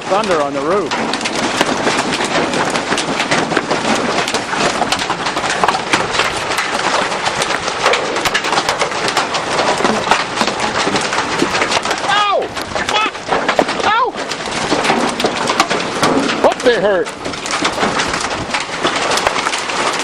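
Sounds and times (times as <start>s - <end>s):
hailstones pelting a roof: 0.0s - 20.0s.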